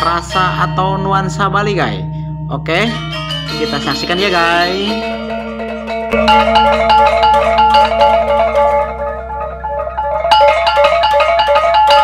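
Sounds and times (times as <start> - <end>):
gamelan metallophones playing: 0.0 - 12.0.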